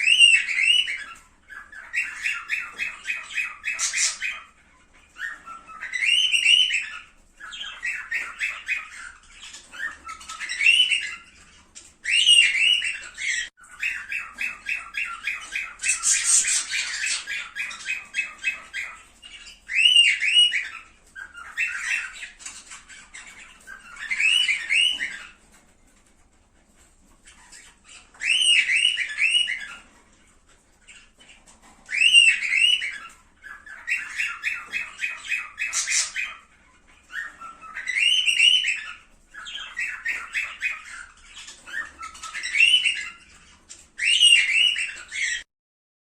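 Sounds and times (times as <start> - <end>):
cockatiel whistling song: 0.0 - 25.4, 27.2 - 29.9, 31.9 - 45.4.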